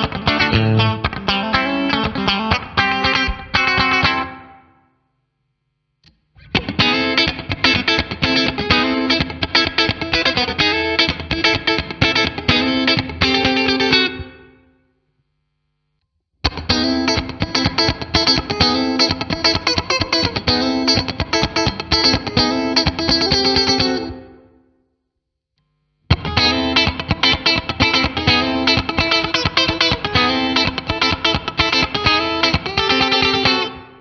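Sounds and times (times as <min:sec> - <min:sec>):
electric guitar funk chords: 0:00.0 - 0:04.7, 0:06.4 - 0:14.6, 0:16.4 - 0:24.4, 0:26.1 - 0:34.0.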